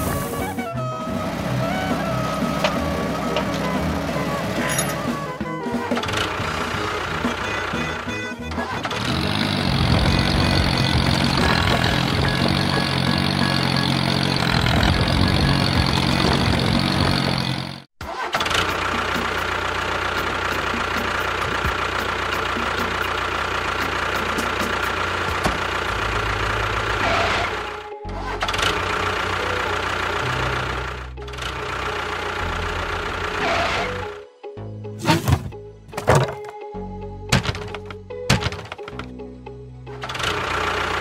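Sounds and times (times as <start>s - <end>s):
tractor engine running: 0.0s - 34.2s, 37.3s - 39.2s, 39.9s - 41.0s.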